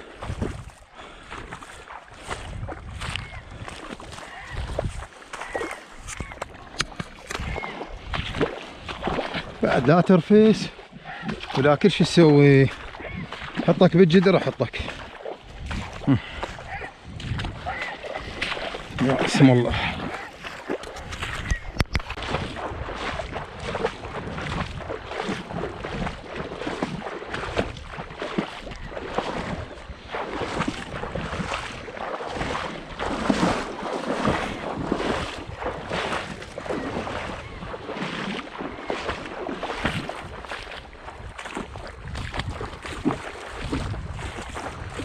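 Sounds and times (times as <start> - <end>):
wind on microphone: 0.0 - 0.8, 2.1 - 9.8, 14.7 - 45.0
paddle swishing through water: 0.0 - 45.0.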